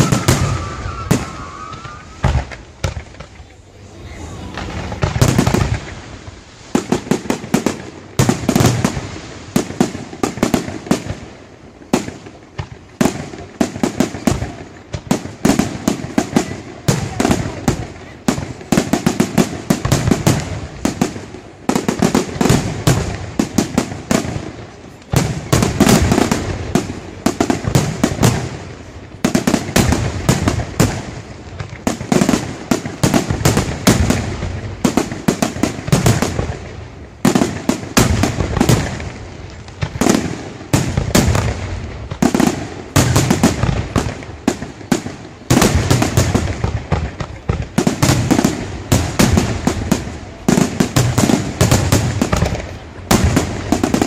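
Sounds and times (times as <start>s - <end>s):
fireworks crackling: 0.0s - 54.0s.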